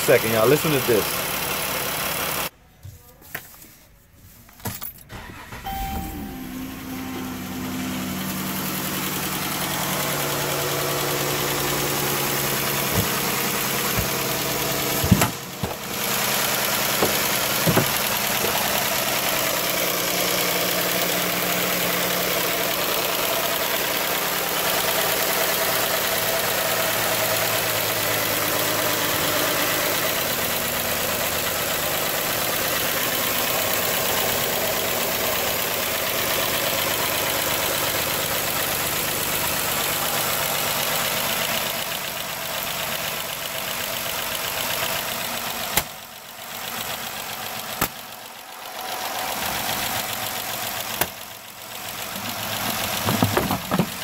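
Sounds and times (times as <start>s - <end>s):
car engine idling: 0.0s - 2.5s, 5.1s - 54.0s.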